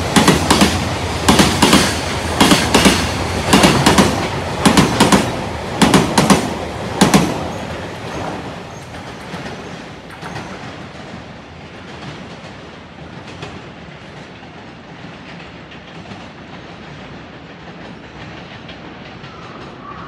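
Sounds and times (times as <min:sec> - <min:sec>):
train wagon wheels rumbling: 0:00.0 - 0:20.0
wheels clicking over rail joints: 0:00.2 - 0:19.8.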